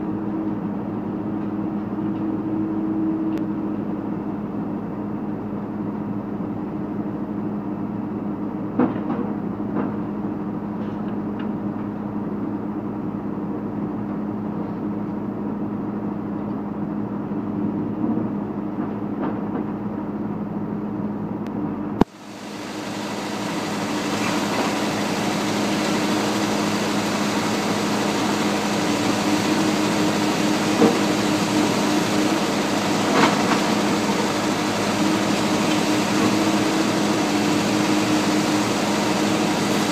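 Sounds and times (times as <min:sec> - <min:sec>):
excavator engine hum: 0:00.0 - 0:39.9.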